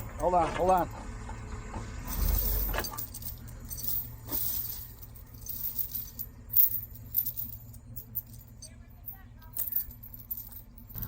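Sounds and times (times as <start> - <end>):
metal clinking and rattling: 0.0 - 1.0, 2.0 - 11.0
vehicle engine idling: 0.0 - 11.0.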